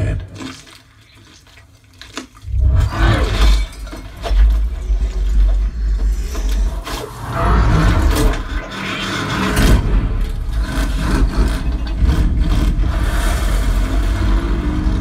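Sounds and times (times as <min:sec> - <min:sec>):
film sound effects: 0:02.4 - 0:15.0
deep bass rumble: 0:02.5 - 0:15.0.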